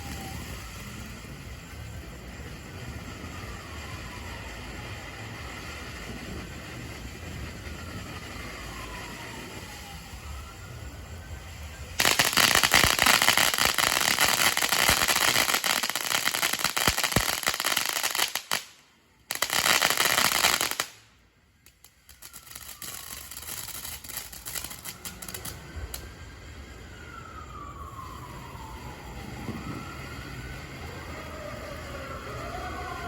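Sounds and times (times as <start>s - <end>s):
firework crackling pops: 0.0s - 26.3s, 27.3s - 30.8s
faint distant sirens wailing: 0.0s - 33.0s.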